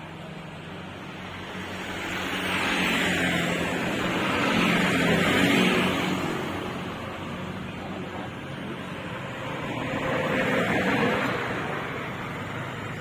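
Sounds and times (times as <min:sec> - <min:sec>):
vehicle passing by: 0:01.1 - 0:13.0.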